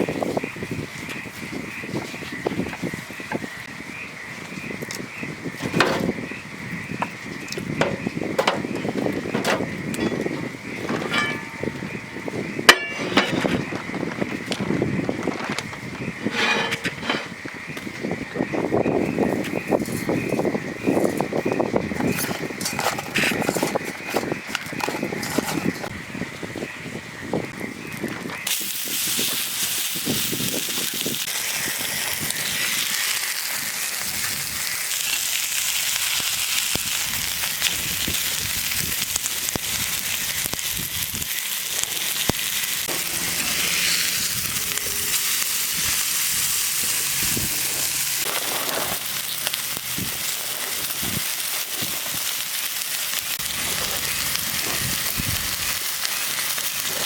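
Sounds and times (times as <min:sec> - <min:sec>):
food sizzling over campfire: 0:00.0 - 0:57.0.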